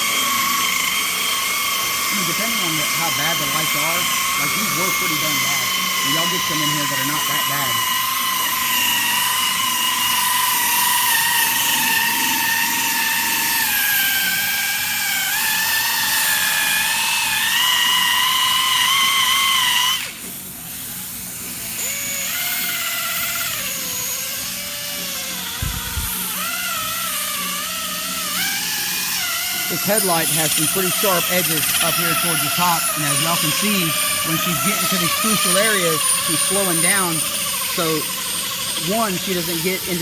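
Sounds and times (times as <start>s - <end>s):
rotary buffer motor whining: 0.0s - 40.0s.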